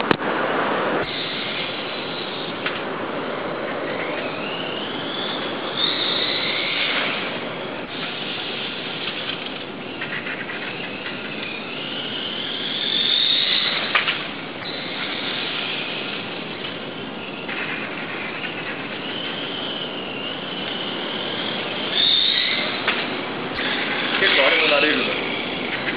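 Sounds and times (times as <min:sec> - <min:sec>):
steady rushing noise: 0:00.0 - 0:25.9
electric motor whining: 0:01.0 - 0:25.9.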